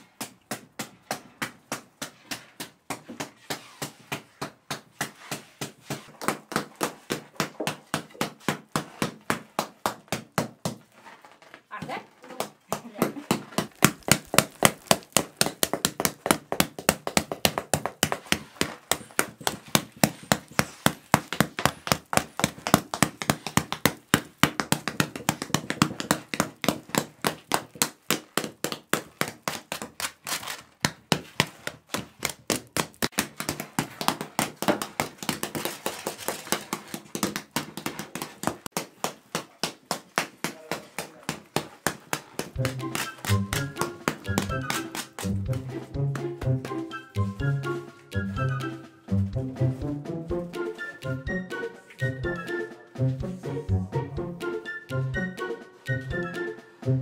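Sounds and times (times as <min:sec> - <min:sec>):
wooden stick beating bread crust: 0:00.0 - 0:53.4.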